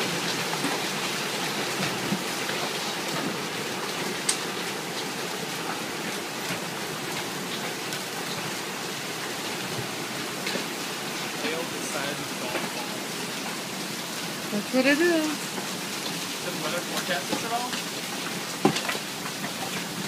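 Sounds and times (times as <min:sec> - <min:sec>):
hail and heavy rain: 0:00.0 - 0:20.0.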